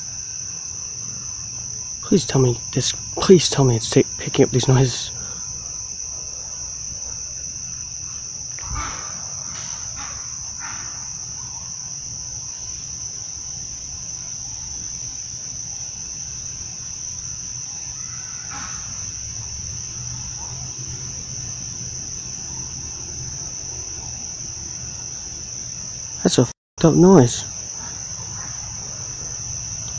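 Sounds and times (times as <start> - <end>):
night insects chirping: 0.0 - 29.9.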